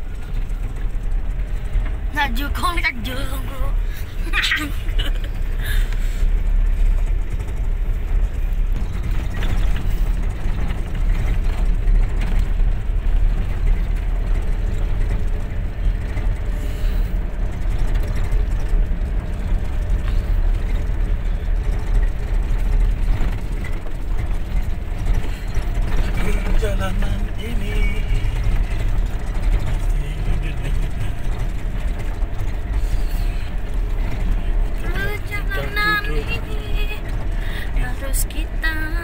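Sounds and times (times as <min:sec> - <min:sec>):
engine and tyres rumbling on gravel: 0:00.0 - 0:39.0.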